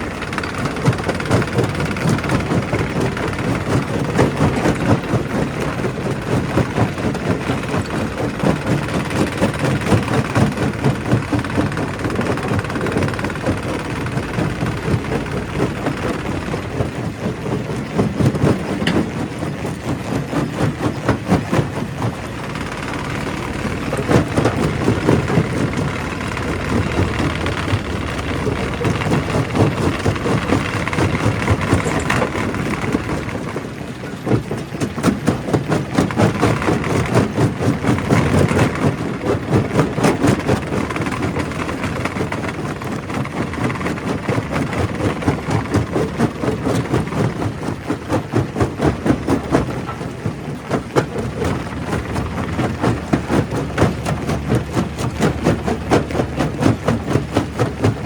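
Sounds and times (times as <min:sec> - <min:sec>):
rock crusher machinery drone: 0:00.0 - 0:58.0.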